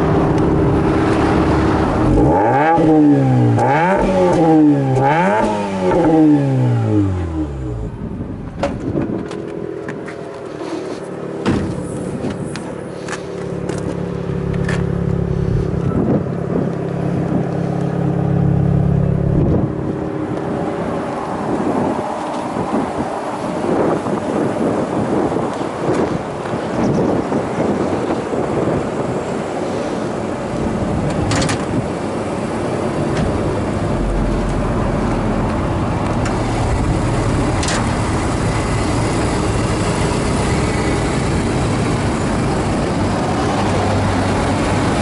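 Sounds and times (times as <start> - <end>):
rotary engine revving and idling: 0.0 - 8.3, 9.0 - 25.3, 28.0 - 45.0.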